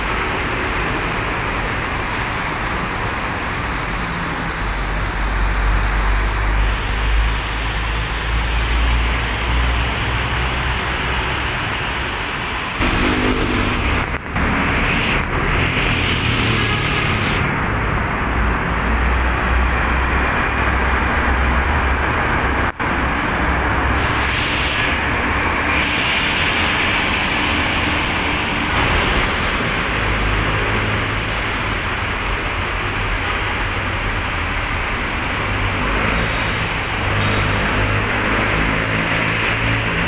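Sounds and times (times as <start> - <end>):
traffic engine rumble: 0.0 - 40.0.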